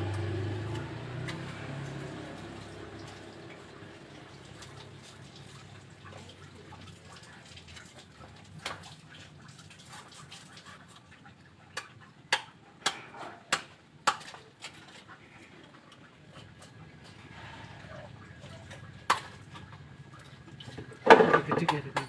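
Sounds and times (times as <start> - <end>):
water splashing in a tub: 0.0 - 22.0.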